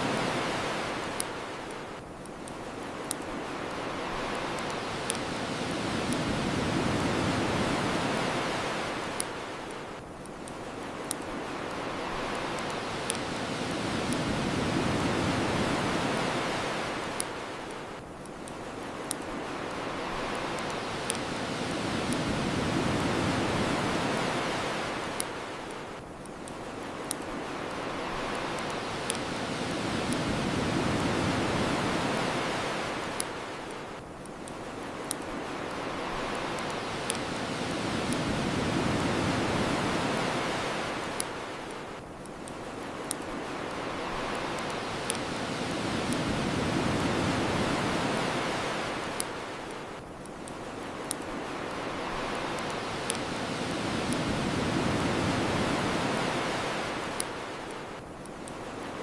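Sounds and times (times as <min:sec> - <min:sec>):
bonfire crackling: 0:00.0 - 0:59.0
ocean waves washing ashore: 0:00.0 - 0:59.0.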